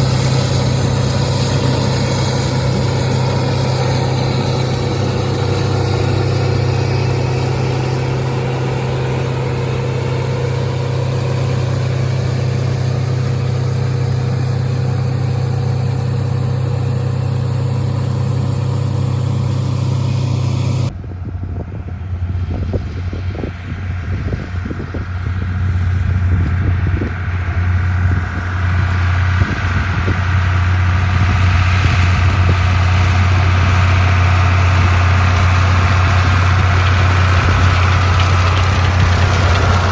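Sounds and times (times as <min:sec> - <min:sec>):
engine rattling and knocking: 0:00.0 - 0:39.9
tractor engine running: 0:00.0 - 0:39.9.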